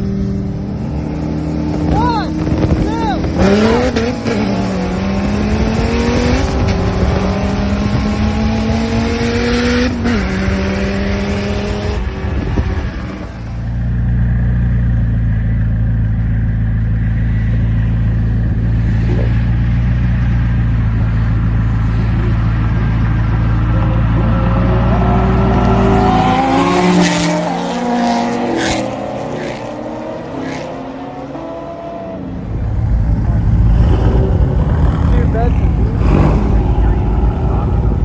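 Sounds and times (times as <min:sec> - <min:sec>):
car engine accelerating: 0:00.0 - 0:38.0
wind and road noise: 0:00.0 - 0:38.0.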